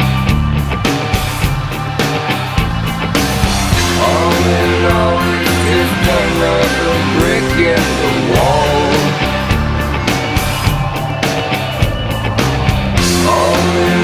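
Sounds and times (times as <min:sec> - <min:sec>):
rock music: 0:00.0 - 0:14.0.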